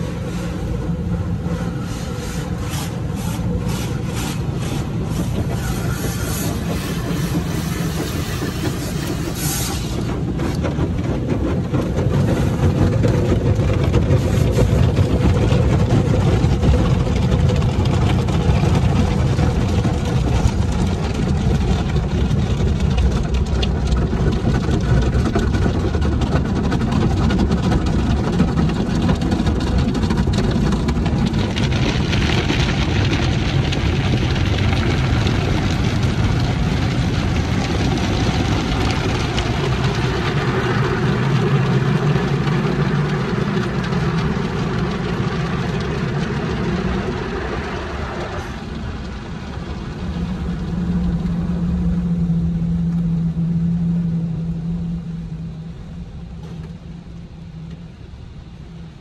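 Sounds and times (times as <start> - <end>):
car wash water and machinery rumble: 0.0 - 59.0.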